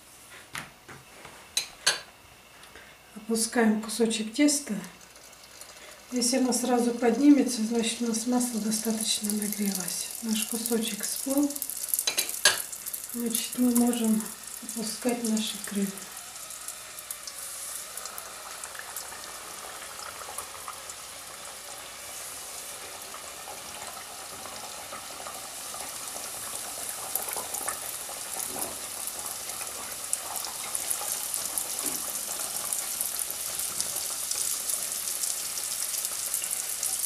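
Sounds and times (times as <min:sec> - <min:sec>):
dough deep-frying in oil: 0:03.8 - 0:37.0.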